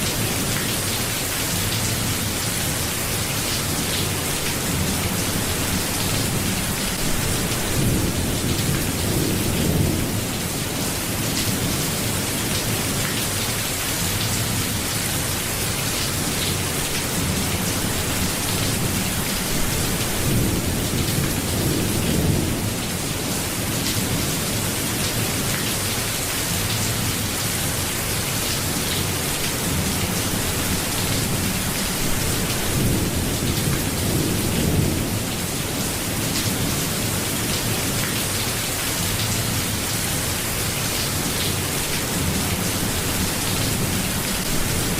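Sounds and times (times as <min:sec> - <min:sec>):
dense rainfall: 0:00.0 - 0:44.9.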